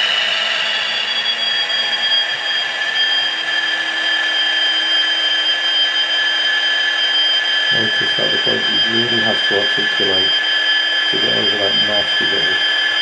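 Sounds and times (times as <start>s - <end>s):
model locomotive whine: 0.0s - 13.0s.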